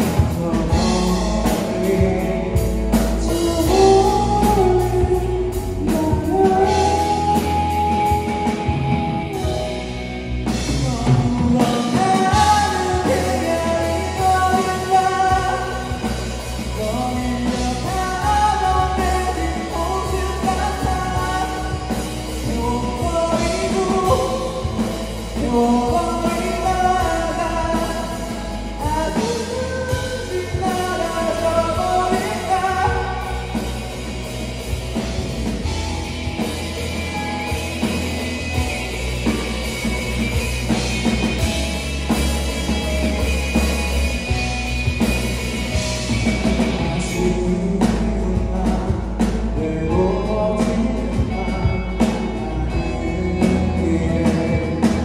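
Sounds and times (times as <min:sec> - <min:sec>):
lead vocalist singing: 0:00.0 - 0:55.0
live rock band playing: 0:00.0 - 0:55.0.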